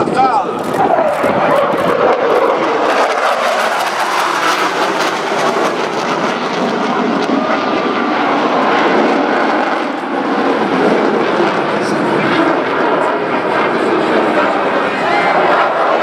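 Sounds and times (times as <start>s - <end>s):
jet engines roaring with whine: 0.0s - 16.0s.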